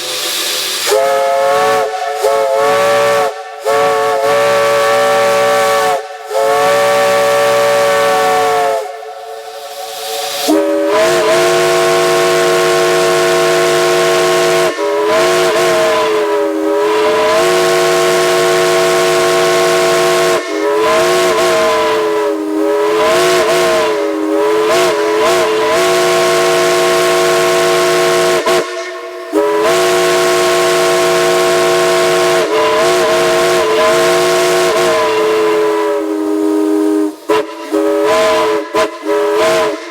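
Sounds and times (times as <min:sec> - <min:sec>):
chime steam whistle blasts: 0:00.0 - 0:39.9
lower-pitched steam whistle: 0:00.0 - 0:39.9.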